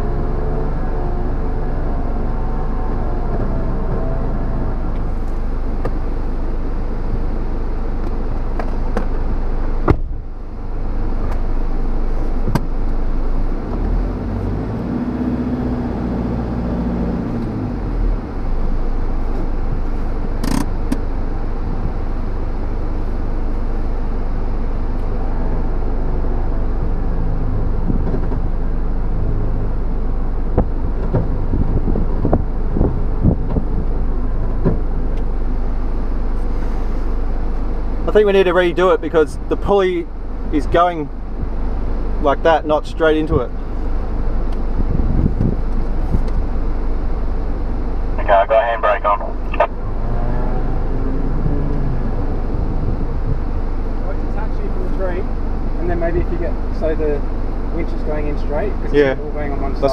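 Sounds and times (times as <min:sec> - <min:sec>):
engine running inside cab: 0:00.0 - 0:59.9.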